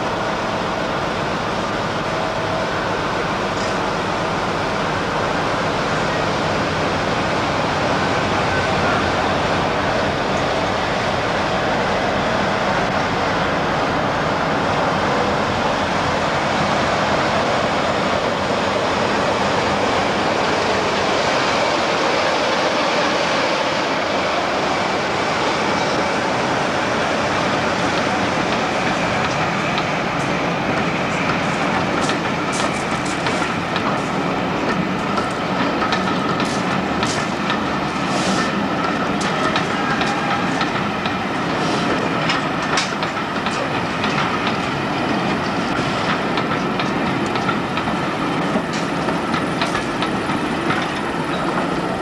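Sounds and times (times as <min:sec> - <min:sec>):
diesel locomotive engine rumbling: 0:00.0 - 0:52.0.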